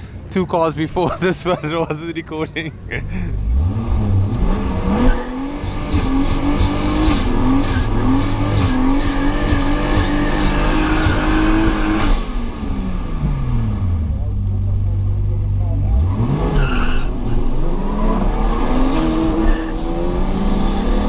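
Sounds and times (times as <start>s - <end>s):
car engine revving: 3.0s - 21.0s.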